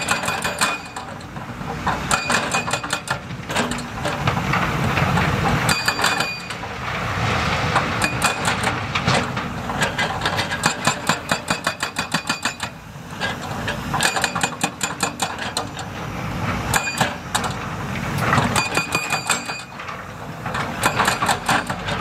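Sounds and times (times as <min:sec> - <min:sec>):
heavy machinery rumbling: 0:00.0 - 0:22.0.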